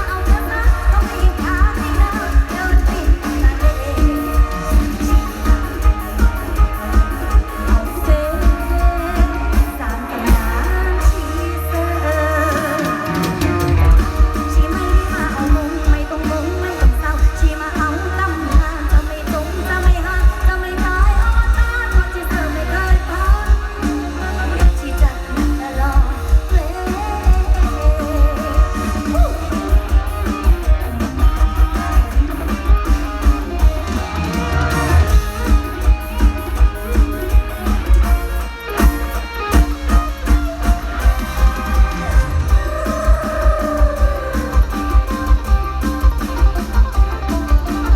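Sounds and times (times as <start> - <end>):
heavy bass drum beat: 0.0 - 47.9
person singing: 0.0 - 47.9
plucked guitar-like melody: 0.0 - 47.9.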